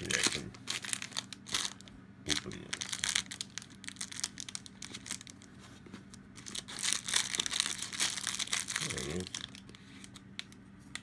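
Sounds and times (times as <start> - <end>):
packaging tearing: 0.0 - 5.5, 6.4 - 10.2
packaging crinkling and rustling: 0.0 - 11.0.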